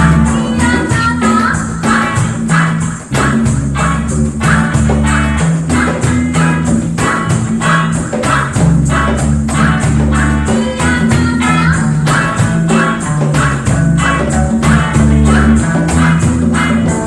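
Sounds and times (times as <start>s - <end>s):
live reggae band playing: 0.0s - 17.0s.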